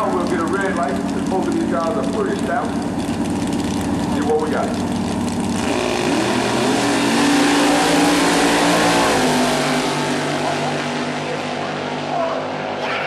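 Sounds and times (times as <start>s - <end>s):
drag racing cars accelerating: 0.0s - 13.0s.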